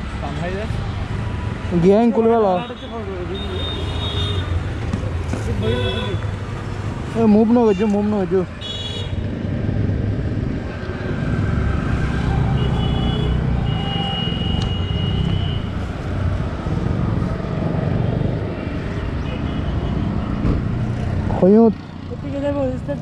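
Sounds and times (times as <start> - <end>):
highway traffic rumble: 0.0 - 23.0.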